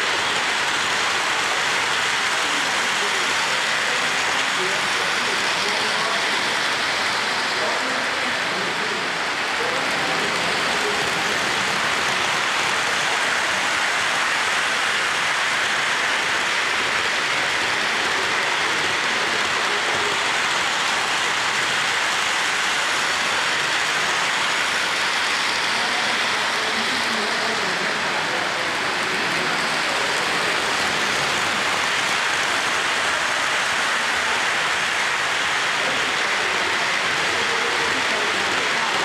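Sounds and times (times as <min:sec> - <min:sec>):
model trains rumbling on track: 0:00.0 - 0:39.0.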